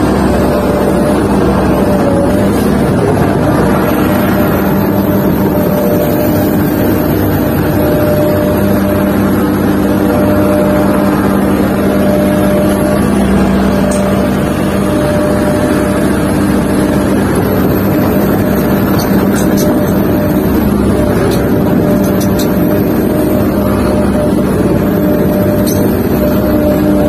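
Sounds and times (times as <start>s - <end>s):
excavator engine hum: 0.0s - 27.0s.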